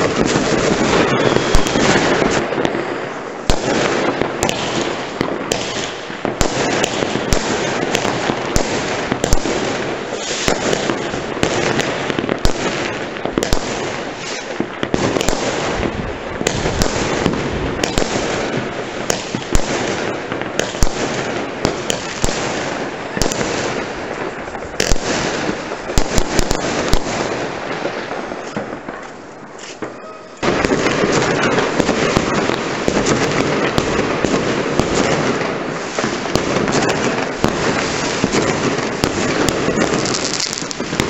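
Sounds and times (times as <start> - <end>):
fireworks crackling and banging: 0.0 - 41.0.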